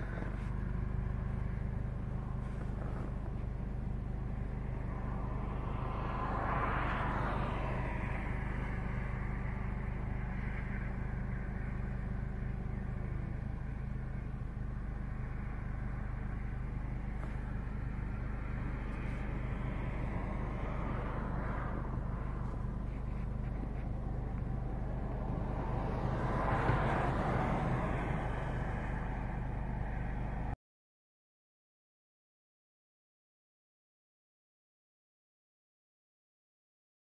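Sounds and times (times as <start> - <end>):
low rumble of road traffic: 0.0 - 30.6
vehicle passing: 0.0 - 30.6.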